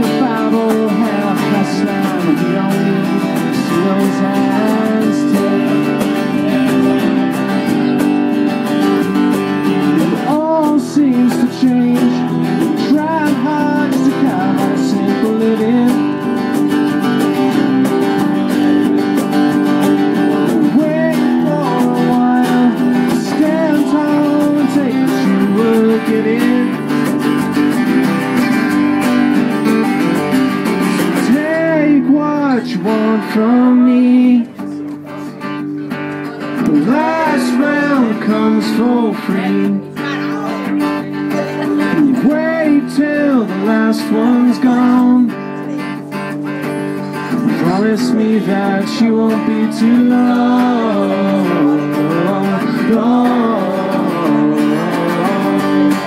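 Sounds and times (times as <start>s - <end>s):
acoustic guitars strummed: 0.0s - 56.0s
bass guitar: 0.0s - 56.0s
person singing: 0.0s - 56.0s.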